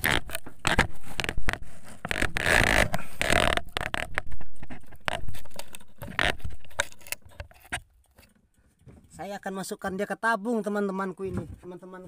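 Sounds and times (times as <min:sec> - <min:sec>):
knocks and clicks in wooden boat: 0:00.0 - 0:10.0.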